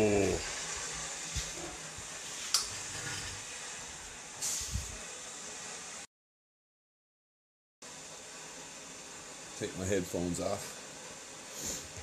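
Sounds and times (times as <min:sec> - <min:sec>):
steady hiss: 0:00.0 - 0:06.1, 0:07.9 - 0:12.0.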